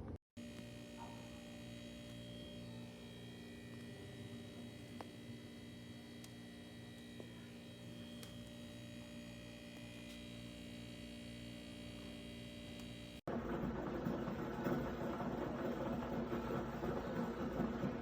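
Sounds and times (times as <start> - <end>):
water cooler electrical hum: 0.0 - 18.0.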